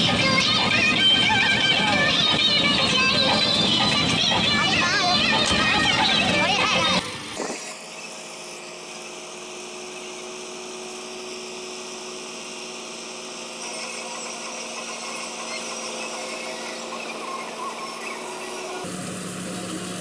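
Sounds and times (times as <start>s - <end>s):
combine harvester mechanical whine: 0.0s - 20.0s.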